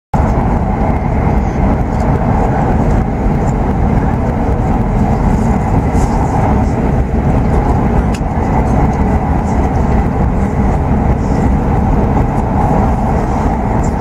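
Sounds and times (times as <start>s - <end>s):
train cabin rumble: 0.1s - 14.0s.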